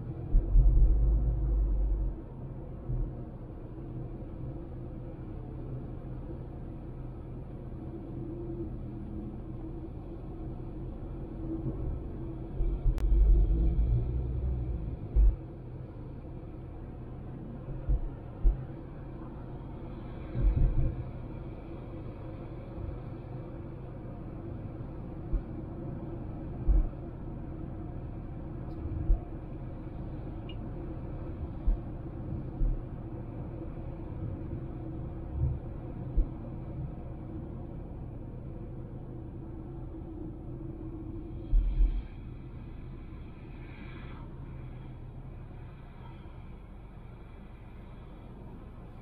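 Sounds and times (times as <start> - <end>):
car road and engine rumble: 0.0 - 49.0.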